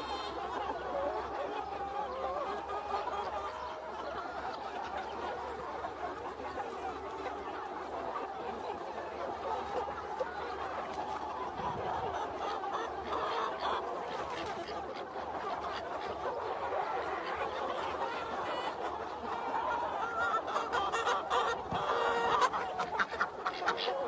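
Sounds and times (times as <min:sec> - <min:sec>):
flock of chickens clucking: 0:00.0 - 0:24.0.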